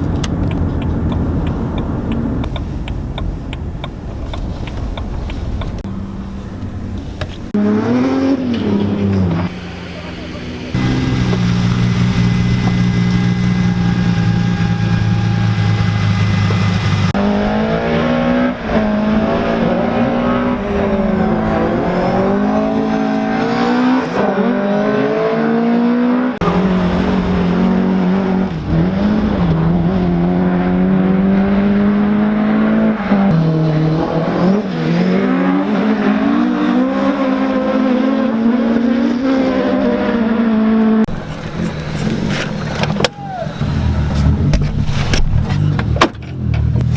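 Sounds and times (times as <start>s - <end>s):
rally car engine accelerating: 7.4s - 46.9s.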